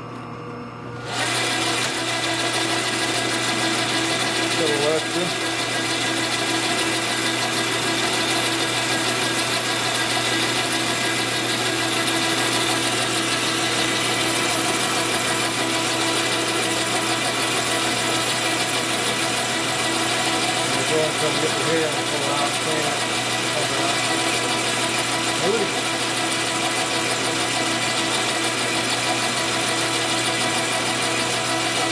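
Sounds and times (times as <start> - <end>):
metal lathe running: 1.0 - 31.9.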